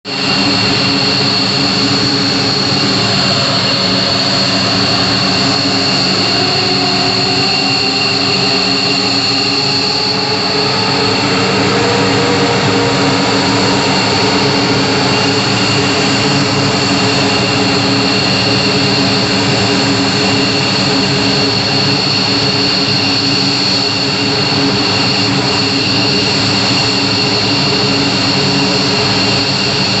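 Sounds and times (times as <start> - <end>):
jet engines roaring: 0.0 - 30.0
engine spooling up: 0.1 - 30.0.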